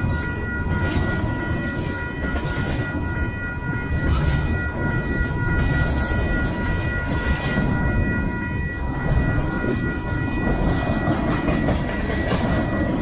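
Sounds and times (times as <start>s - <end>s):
freight train rumble: 0.0s - 13.0s
high ringing tone: 0.0s - 13.0s.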